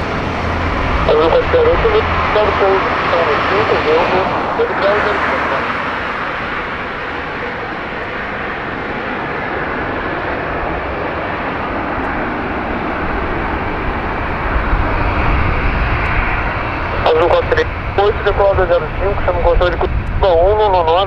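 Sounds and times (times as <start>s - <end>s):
deep low rumble: 0.0s - 9.8s, 10.4s - 21.0s
jet engines roaring: 0.0s - 21.0s.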